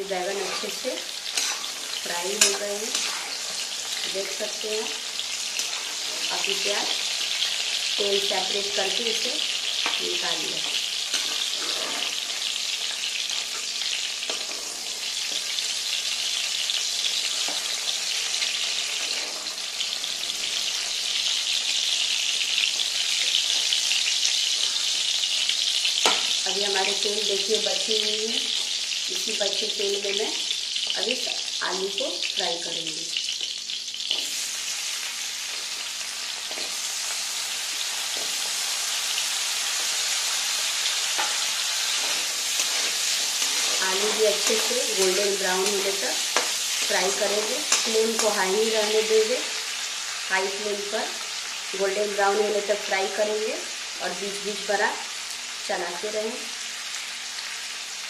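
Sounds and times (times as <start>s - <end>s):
eggplant frying in hot oil: 0.0s - 58.0s.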